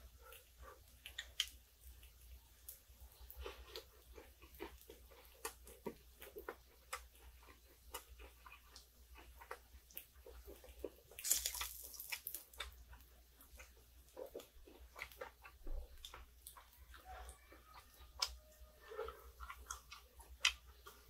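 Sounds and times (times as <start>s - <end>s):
chewing with wet mouth clicks: 0.2s - 21.0s.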